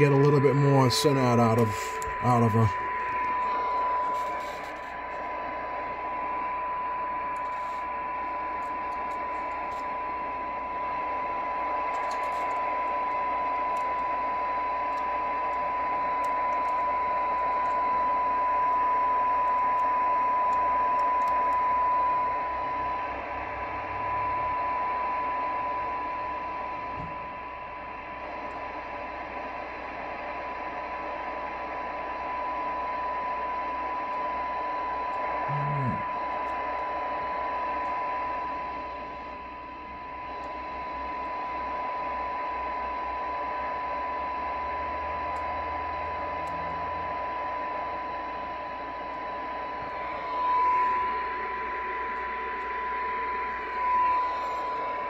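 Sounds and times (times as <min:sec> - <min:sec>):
receiver hiss: 0:00.0 - 0:55.0
steady test tone from radio speaker: 0:00.0 - 0:55.0.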